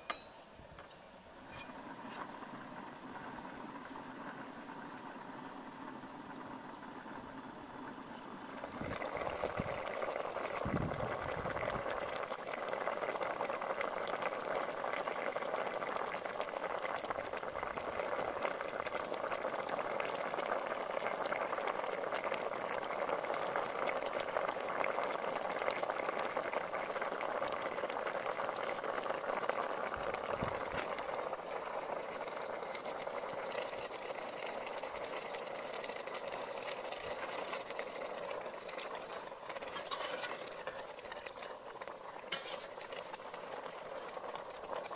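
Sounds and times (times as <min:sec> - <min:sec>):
soup bubbling in a pot: 0:00.0 - 0:44.9.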